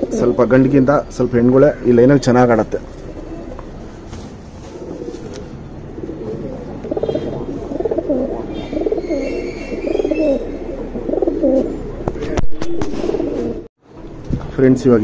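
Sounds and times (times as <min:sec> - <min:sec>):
pigeons cooing: 0:00.0 - 0:02.0, 0:02.8 - 0:13.7.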